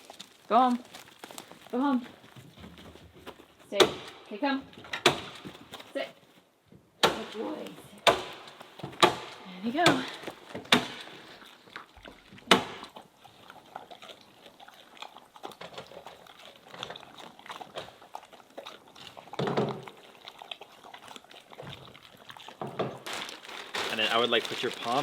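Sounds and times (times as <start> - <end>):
dogs crunching and chewing: 0.0 - 25.0.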